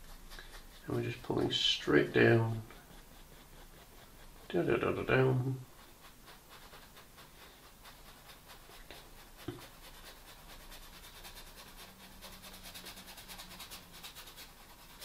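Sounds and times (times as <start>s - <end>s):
paintbrush rasping on canvas: 0.0s - 15.0s.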